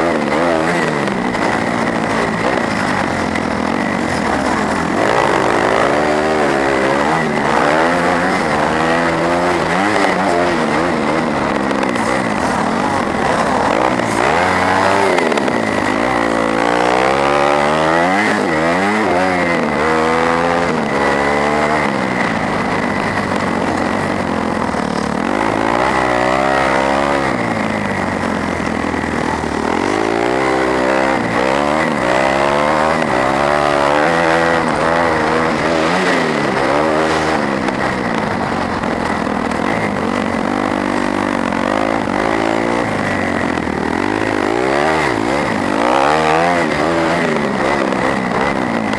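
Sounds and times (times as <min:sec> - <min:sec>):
motorbike engine revving: 0:00.0 - 0:48.9
steady high whine: 0:00.0 - 0:48.9.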